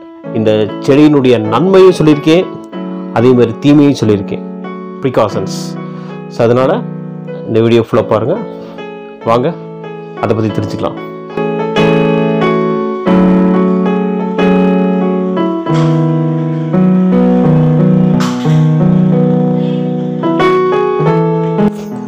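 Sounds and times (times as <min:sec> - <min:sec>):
keyboard playing slow chords: 0:00.0 - 0:22.0.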